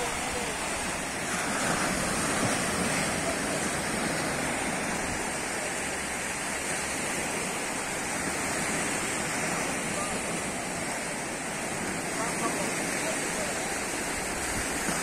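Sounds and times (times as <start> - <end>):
sea surf washing in: 0.0 - 15.0.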